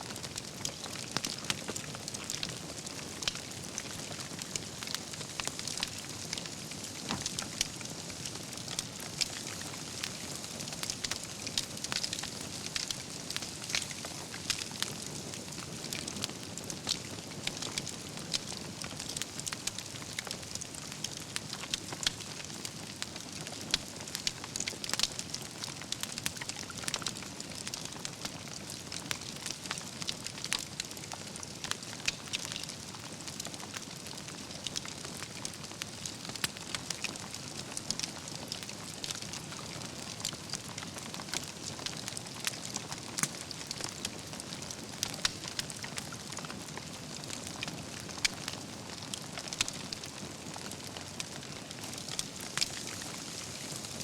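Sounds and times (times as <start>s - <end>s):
campfire crackling and popping: 0.1s - 54.0s.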